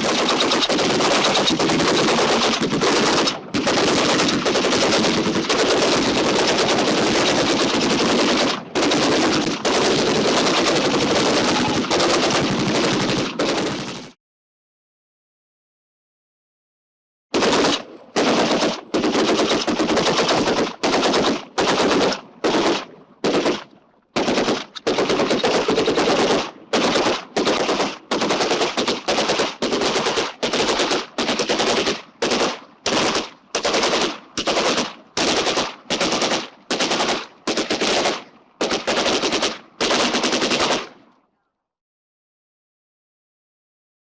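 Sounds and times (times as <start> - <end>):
machine-gun fire bursts: 0.0 - 14.2, 17.3 - 41.0.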